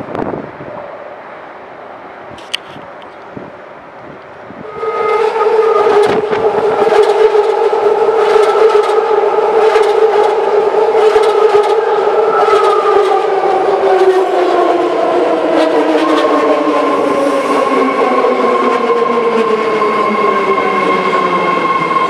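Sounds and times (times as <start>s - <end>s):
train rumble: 0.0s - 22.0s
electric train high whine: 2.9s - 22.0s.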